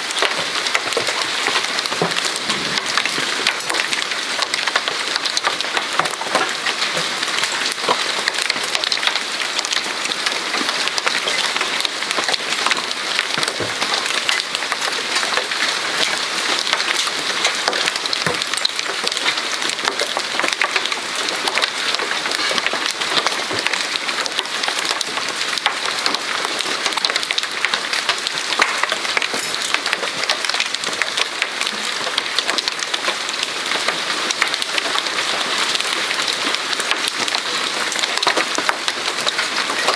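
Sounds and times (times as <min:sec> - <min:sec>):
hail and rain pelting: 0:00.0 - 0:39.9.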